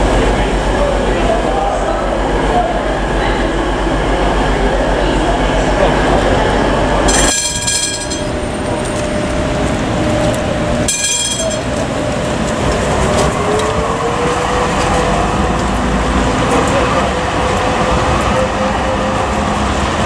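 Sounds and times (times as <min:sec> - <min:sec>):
train running through station: 0:00.0 - 0:20.0.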